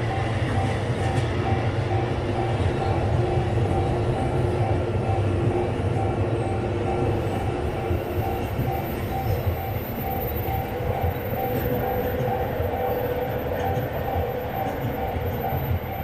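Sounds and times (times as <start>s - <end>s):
crossing warning bell dinging: 0.0s - 16.0s
train rumbling: 0.0s - 16.0s.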